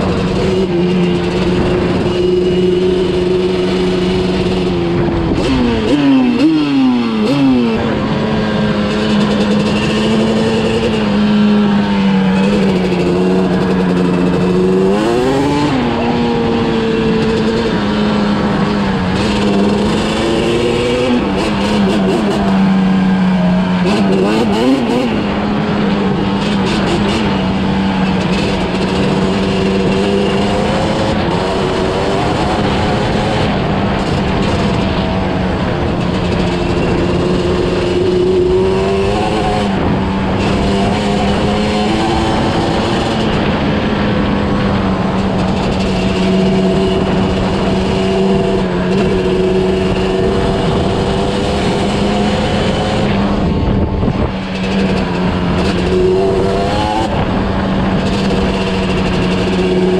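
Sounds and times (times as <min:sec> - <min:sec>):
two-stroke motorcycle engine cruising: 0:00.0 - 0:59.9.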